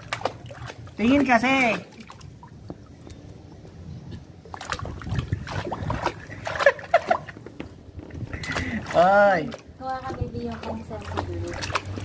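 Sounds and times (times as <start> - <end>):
water splashing in paddling pool: 0.0 - 3.5, 4.4 - 12.0.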